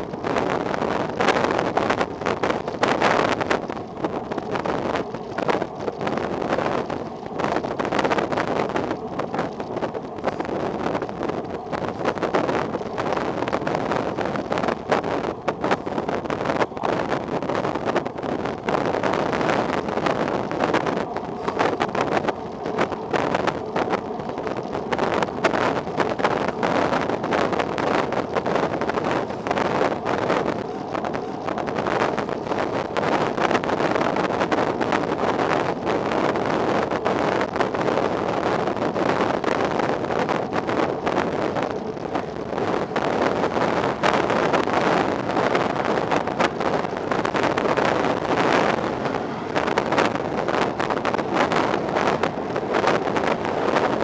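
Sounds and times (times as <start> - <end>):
passing road traffic: 0.0 - 54.0
wind buffeting microphone: 0.0 - 54.0.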